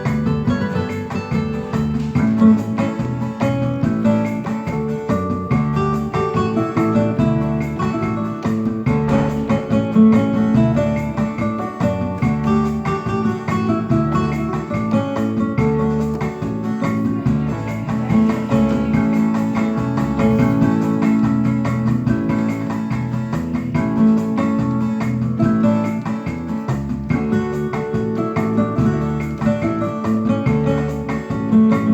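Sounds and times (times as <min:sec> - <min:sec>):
piano notes: 0:00.0 - 0:31.9
plucked guitar: 0:00.0 - 0:31.9.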